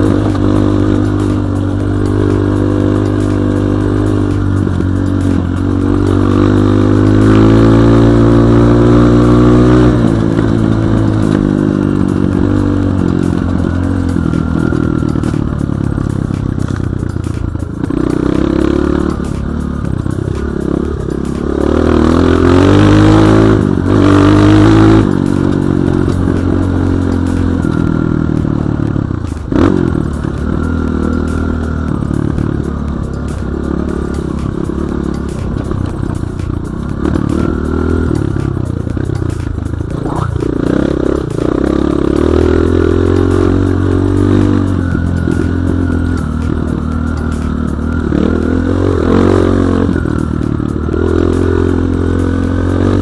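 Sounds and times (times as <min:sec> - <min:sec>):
motorcycle engine revving: 0:00.0 - 0:53.0
motorcycle rattling: 0:00.0 - 0:53.0.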